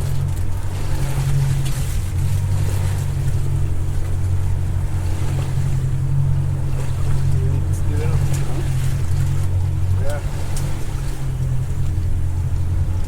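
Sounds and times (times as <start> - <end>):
motorboat engine droning: 0.0 - 13.0
water wash: 0.0 - 13.0
wind: 0.0 - 13.0.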